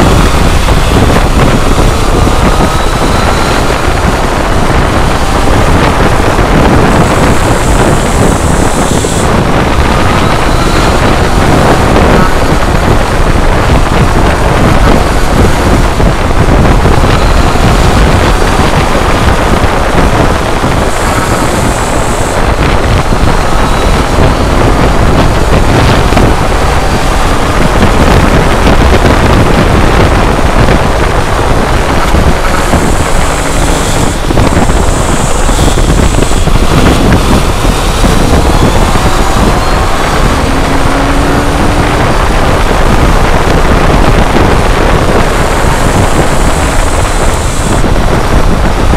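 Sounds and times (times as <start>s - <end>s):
motorcycle engine running: 0.0s - 48.9s
wind rushing over microphone: 0.0s - 48.9s.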